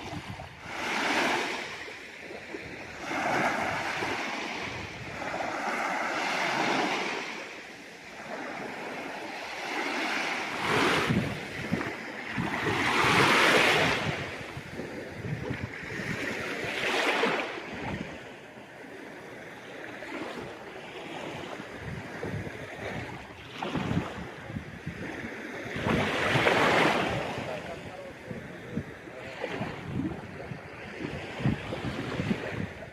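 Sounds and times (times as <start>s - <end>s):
waves breaking on shore: 0.0s - 32.9s.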